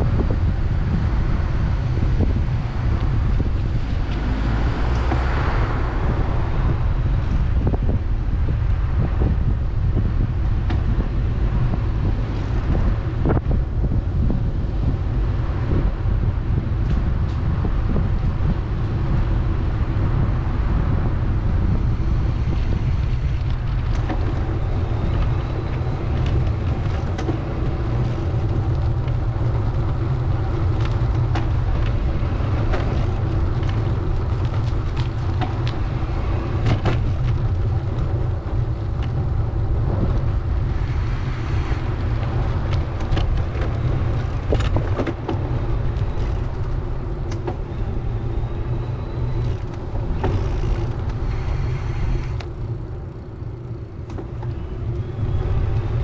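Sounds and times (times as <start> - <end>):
traffic noise: 0.0 - 56.0
wind rumble on microphone: 0.0 - 56.0.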